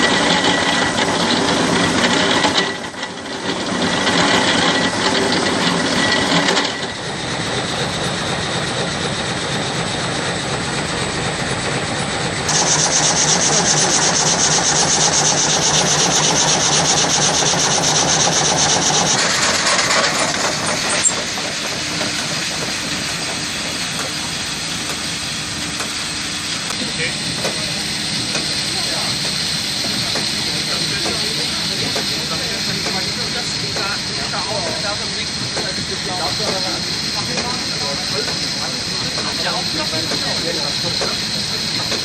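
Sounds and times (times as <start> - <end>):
saw rasping through wood: 0.0 - 42.0
wood saw running: 0.0 - 42.0.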